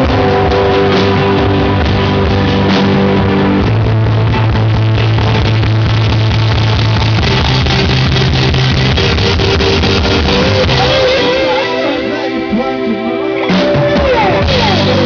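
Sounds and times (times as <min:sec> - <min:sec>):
electric guitar strumming: 0:00.0 - 0:15.0.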